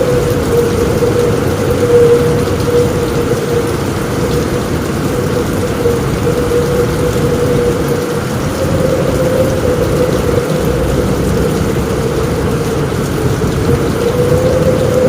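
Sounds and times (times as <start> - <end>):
heavy rain on a roof: 0.0 - 15.0
low rumble: 0.0 - 15.0.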